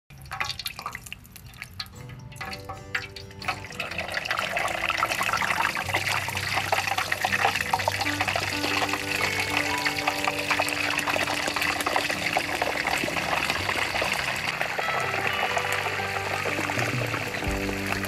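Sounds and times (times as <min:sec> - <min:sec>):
hot oil sizzling and crackling: 0:00.1 - 0:18.0
background music with held notes: 0:01.9 - 0:18.0.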